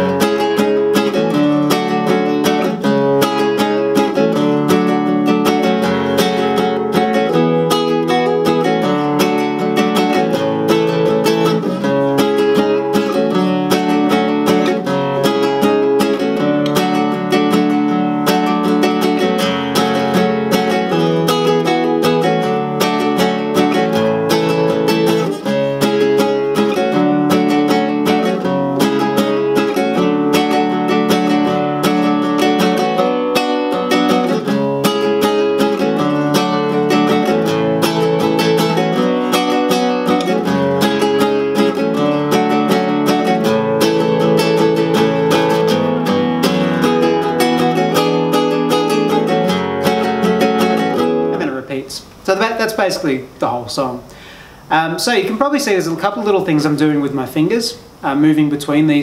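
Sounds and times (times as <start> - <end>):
classical guitar strumming: 0.0 - 59.0.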